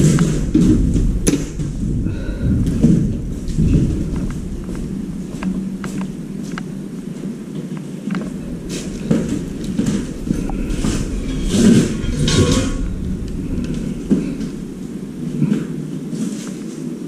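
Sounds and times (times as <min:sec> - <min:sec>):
steady low rumble: 0:00.0 - 0:16.7
objects and cables clicking and rustling: 0:00.0 - 0:17.0.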